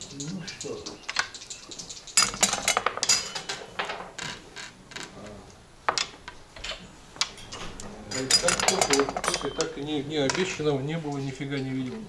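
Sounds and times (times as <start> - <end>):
backgammon checkers clacking: 0.0 - 12.0.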